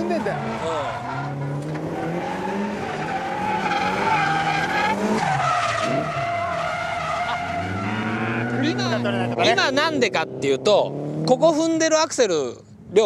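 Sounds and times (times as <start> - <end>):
car engine revving hard: 0.0 - 11.8
tyres squealing: 0.0 - 12.2.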